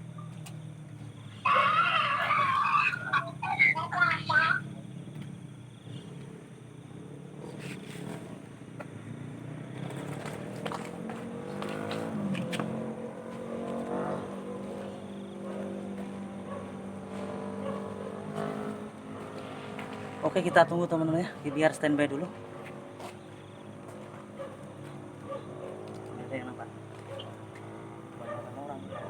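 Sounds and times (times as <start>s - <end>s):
motorcycle and car engines passing: 0.0s - 29.0s
steady engine hum: 0.0s - 29.0s.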